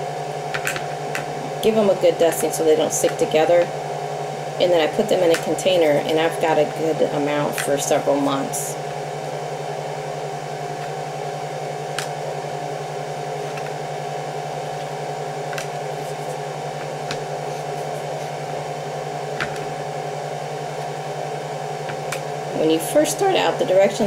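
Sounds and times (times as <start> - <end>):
electric fan humming: 0.0 - 24.0
low electrical buzz: 0.0 - 24.0.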